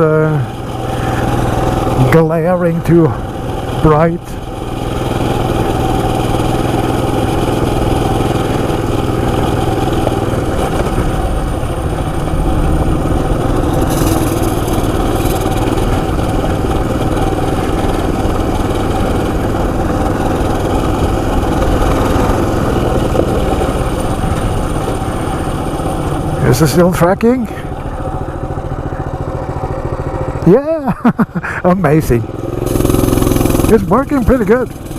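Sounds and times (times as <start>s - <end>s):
mini bike engine running: 0.0s - 34.9s.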